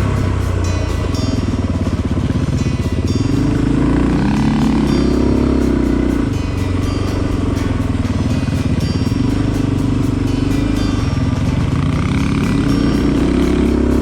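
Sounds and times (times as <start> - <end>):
motorcycle engine running: 0.0 - 14.0
music with steady beat: 0.0 - 14.0.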